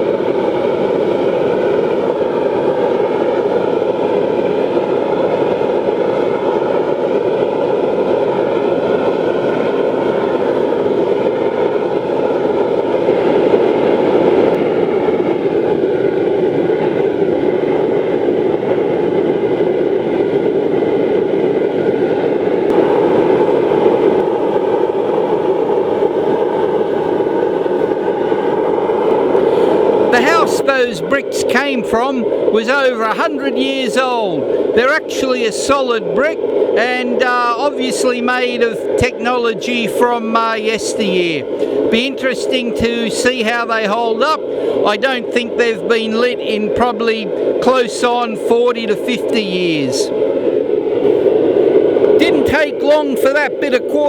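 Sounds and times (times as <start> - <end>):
burner blower and flame roaring: 0.0 - 54.0.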